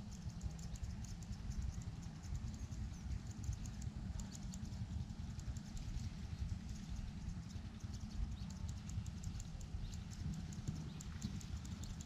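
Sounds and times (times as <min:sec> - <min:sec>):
rapid high-pitched clicking: 0:00.0 - 0:12.0
wind rumbling on microphone: 0:00.0 - 0:12.0.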